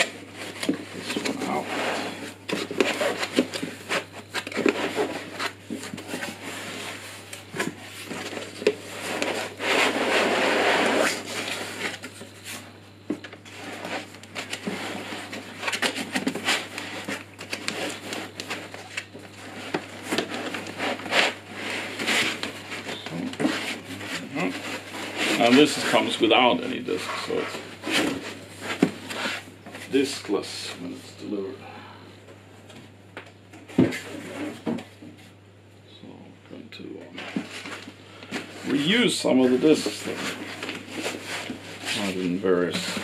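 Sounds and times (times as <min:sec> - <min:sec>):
cardboard and foam packing crackling: 0:00.0 - 0:12.6, 0:13.2 - 0:30.3, 0:37.1 - 0:43.0.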